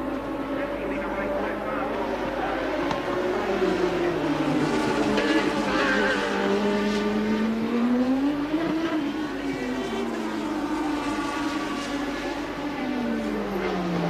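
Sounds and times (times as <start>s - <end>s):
racing car engines at high revs: 0.0s - 14.0s.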